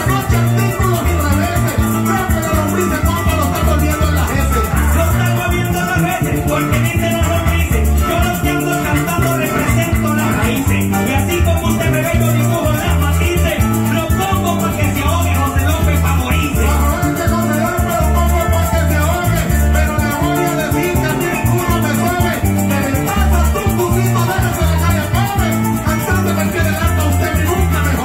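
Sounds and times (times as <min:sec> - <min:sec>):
electric bass: 0:00.0 - 0:28.0
man singing: 0:00.0 - 0:28.0
maracas: 0:00.0 - 0:28.0
small four-string guitar: 0:00.0 - 0:28.0.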